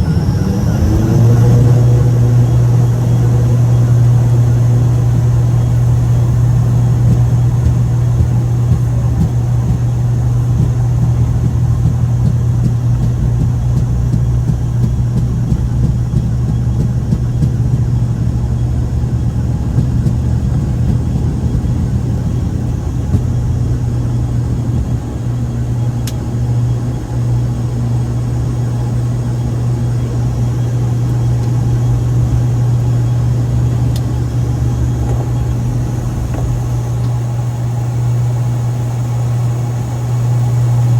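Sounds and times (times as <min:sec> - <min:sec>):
aircraft drone in cockpit: 0:00.0 - 0:40.9.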